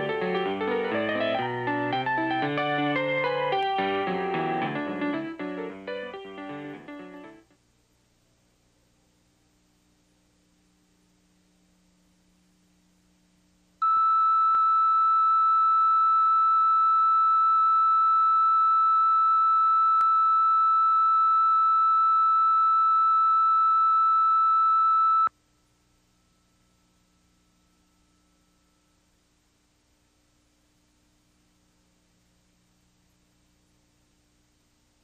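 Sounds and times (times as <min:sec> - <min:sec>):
faint low hum: 0:05.0 - 0:35.0.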